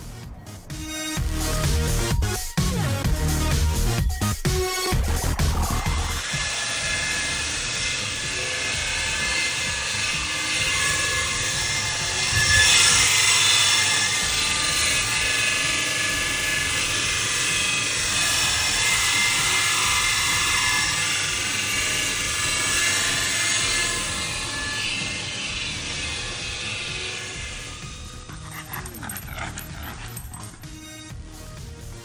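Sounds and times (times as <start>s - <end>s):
belt grinder grinding steel: 0.4s - 32.0s.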